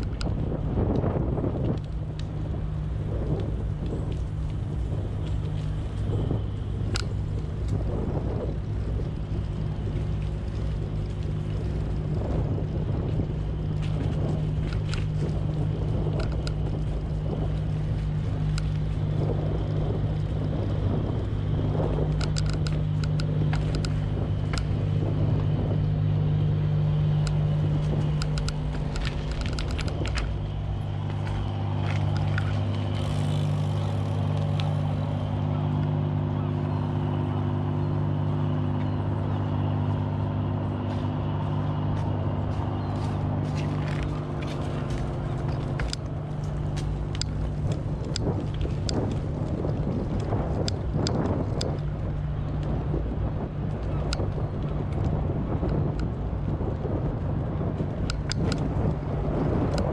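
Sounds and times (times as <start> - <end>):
bicycle clicks and rattles: 0.0 - 35.9, 42.4 - 59.9
bicycle tyres and wind rumble: 0.0 - 59.9.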